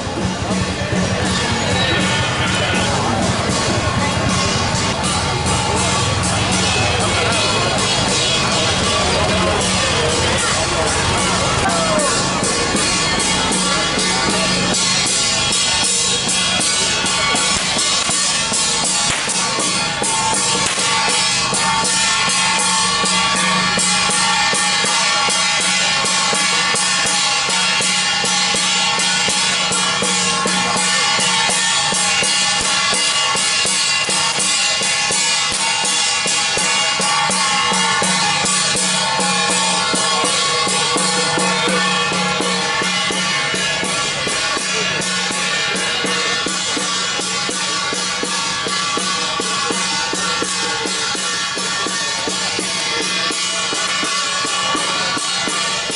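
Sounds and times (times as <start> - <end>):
drums and cymbals beaten: 0.0 - 55.9
steady metallic ringing: 0.0 - 55.9.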